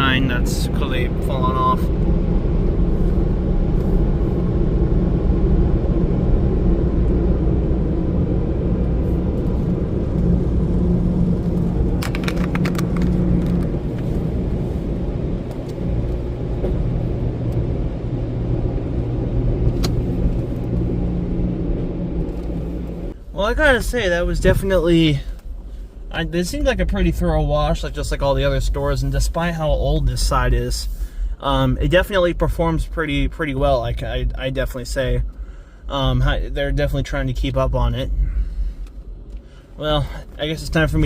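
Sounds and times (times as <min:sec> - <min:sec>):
car wash equipment rumble: 0:00.0 - 0:41.0.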